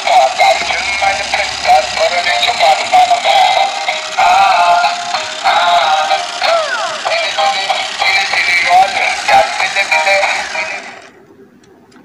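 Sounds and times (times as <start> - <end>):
synthesized voice singing electronic tune: 0.0 - 11.2.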